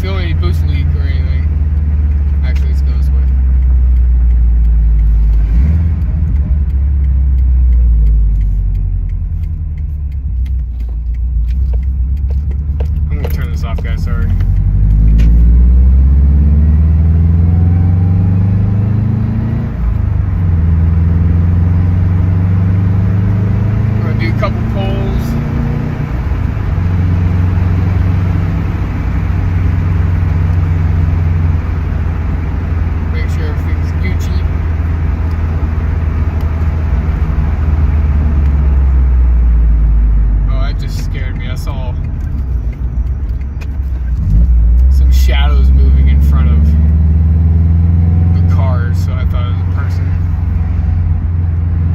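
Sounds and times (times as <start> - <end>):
car engine drone in cabin: 0.0 - 51.9
road noise: 0.0 - 51.9.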